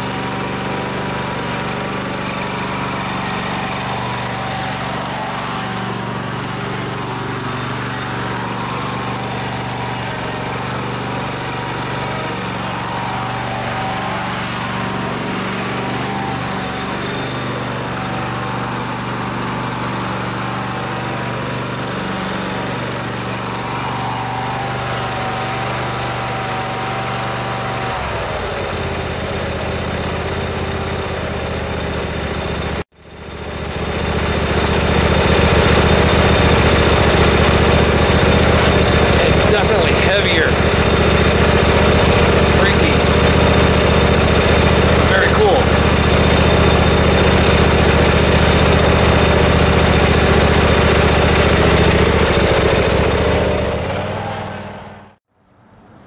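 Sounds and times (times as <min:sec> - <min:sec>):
road noise: 0:00.0 - 0:32.8, 0:33.6 - 0:56.0
truck engine drone: 0:00.0 - 0:55.2.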